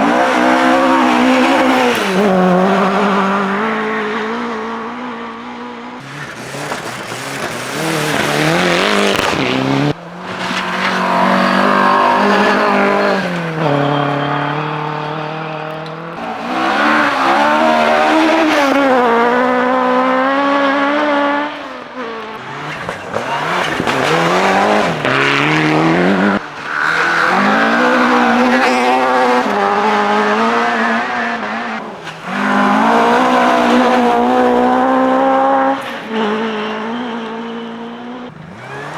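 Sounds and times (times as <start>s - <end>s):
rally car engines at full throttle: 0.0s - 38.9s.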